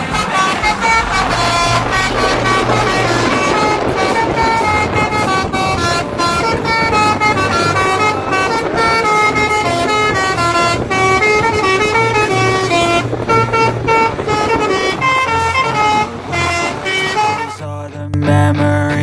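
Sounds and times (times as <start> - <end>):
low rumble: 0.0 - 16.4
musical bus horn: 0.0 - 17.8.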